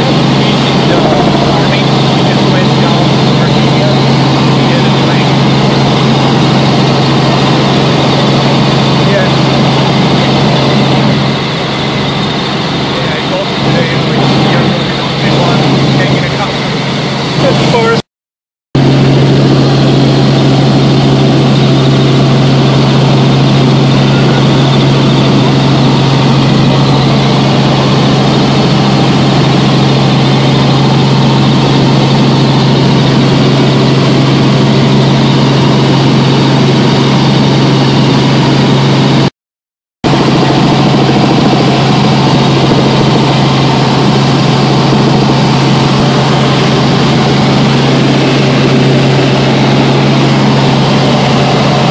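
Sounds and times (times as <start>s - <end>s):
helicopter engine and rotor drone: 0.0s - 18.0s, 18.8s - 39.3s, 40.0s - 51.9s.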